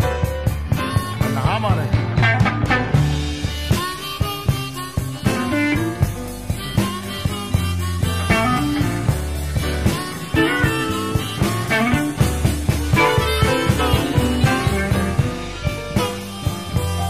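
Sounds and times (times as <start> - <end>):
blues band playing: 0.0 - 17.0
steady drum beat: 0.0 - 17.0.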